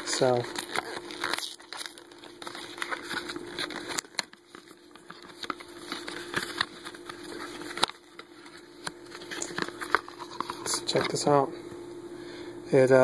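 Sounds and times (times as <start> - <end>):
cardboard flap tearing: 0.0 - 11.2
faint steady hum: 0.0 - 13.0.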